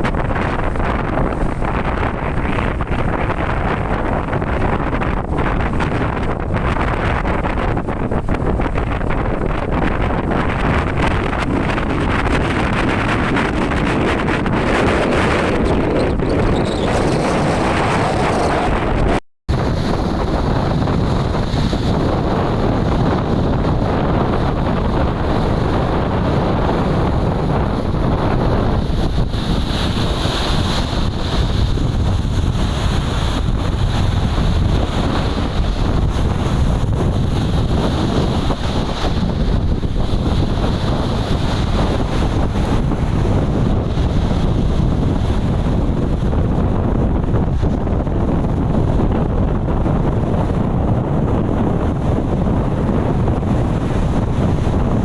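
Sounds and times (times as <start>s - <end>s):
strong wind on microphone: 0.0s - 55.0s.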